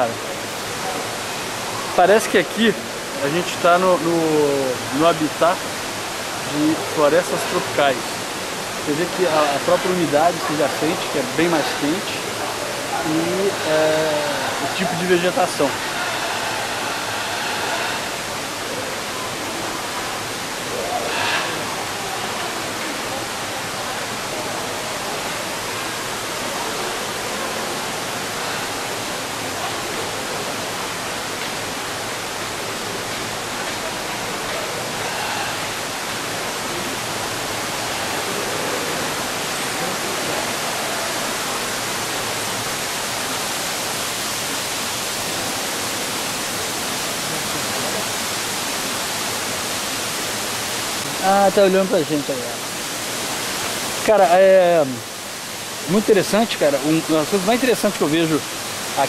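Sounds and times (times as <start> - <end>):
falling water rushing: 0.0 - 59.0.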